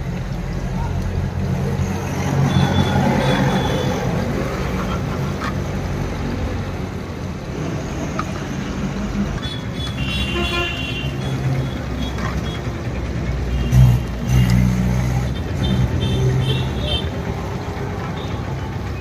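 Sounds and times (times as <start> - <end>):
roadside traffic noise: 0.0 - 19.0
vehicle engine running: 0.0 - 19.0.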